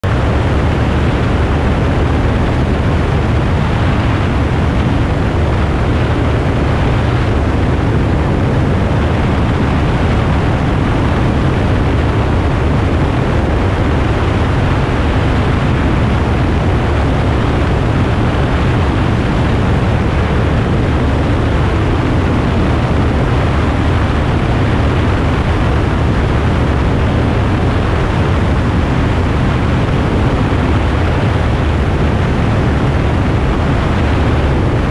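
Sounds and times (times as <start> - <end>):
light airplane droning: 0.0 - 34.9
wind rush: 0.0 - 34.9.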